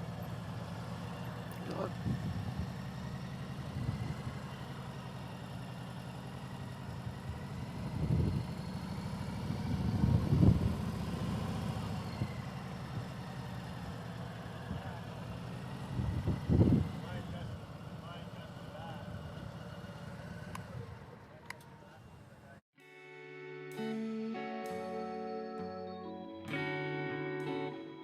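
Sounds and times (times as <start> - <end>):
motorcycle engine idling: 0.0 - 22.6.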